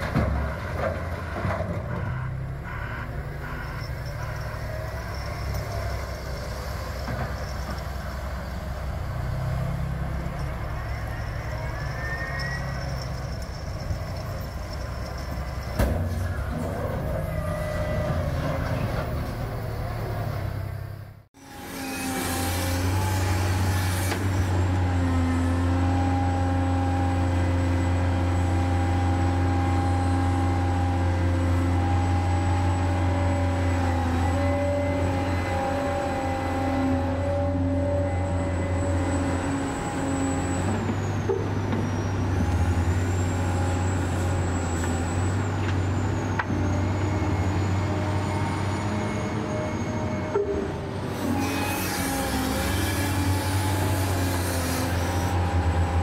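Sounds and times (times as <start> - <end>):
heavy vehicle engine rumbling: 0.0 - 56.0.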